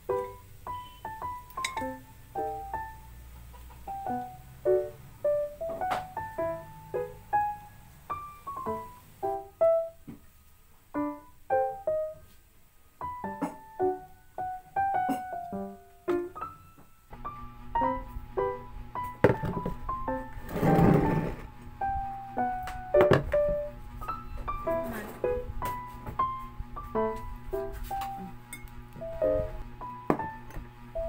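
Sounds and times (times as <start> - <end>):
piano tune: 0.0 - 31.0.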